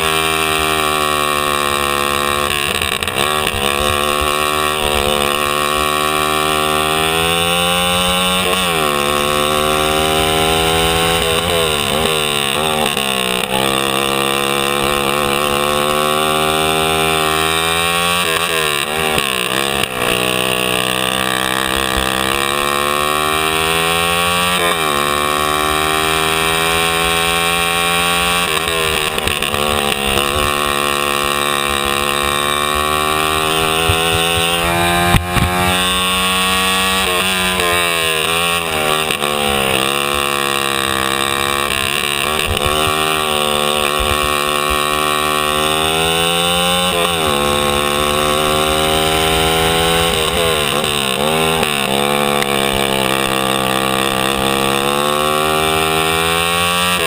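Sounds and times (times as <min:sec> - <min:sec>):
kart engine at high revs: 0:00.0 - 0:57.0.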